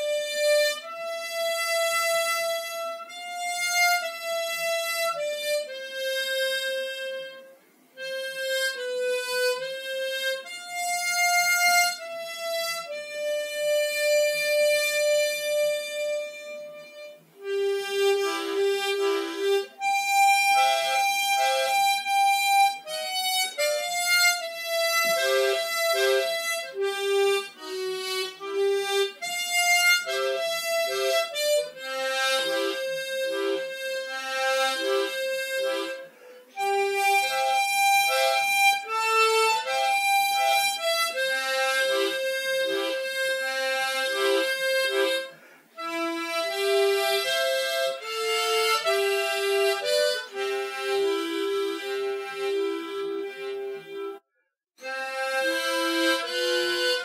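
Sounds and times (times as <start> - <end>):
harmonica melody: 0.0 - 54.2, 54.8 - 57.0.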